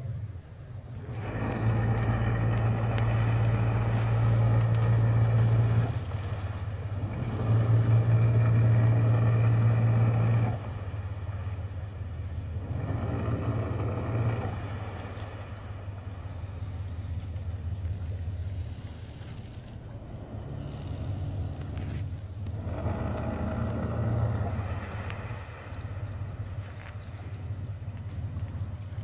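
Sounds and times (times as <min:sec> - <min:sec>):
boat engines droning: 0:00.0 - 0:29.0
rushing water: 0:00.0 - 0:29.0.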